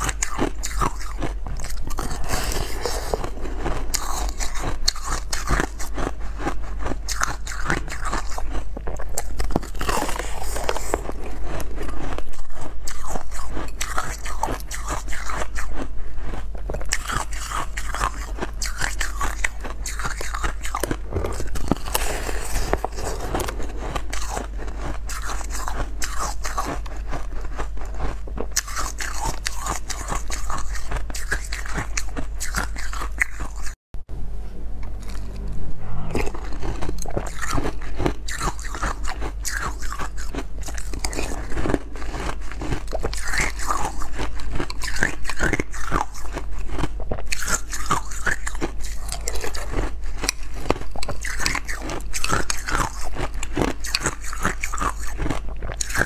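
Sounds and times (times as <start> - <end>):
crunching and chewing ice: 0.0 - 33.8, 34.8 - 35.6, 36.2 - 56.0.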